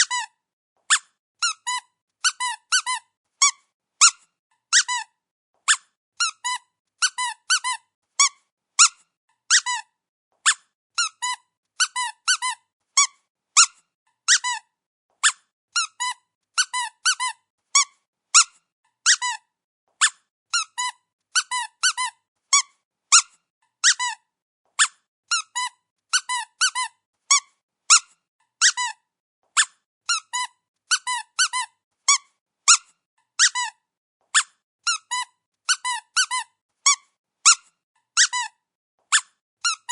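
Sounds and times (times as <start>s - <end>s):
squeaky toy squeaking: 0.0s - 39.9s.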